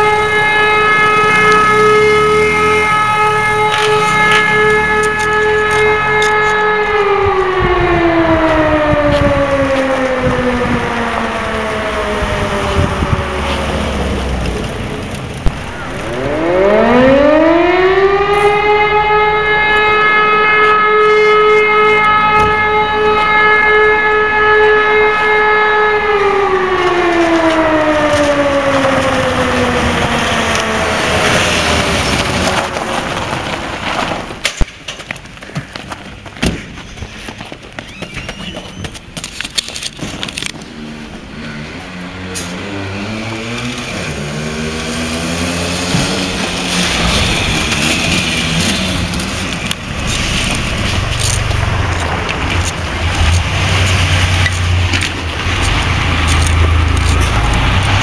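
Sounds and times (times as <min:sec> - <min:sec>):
fire station siren wailing: 0:00.0 - 0:34.5, 0:38.8 - 0:58.0.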